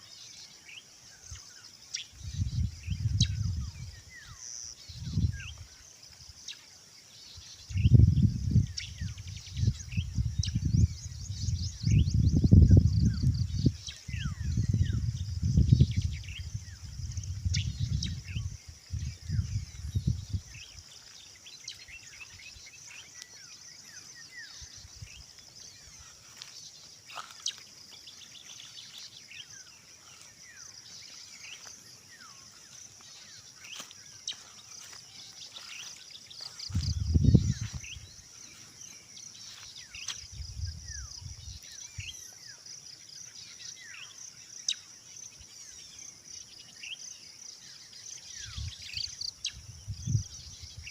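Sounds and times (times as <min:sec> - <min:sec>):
bird chirps: 0:00.0 - 0:50.9
high-pitched insect chorus: 0:00.0 - 0:50.9.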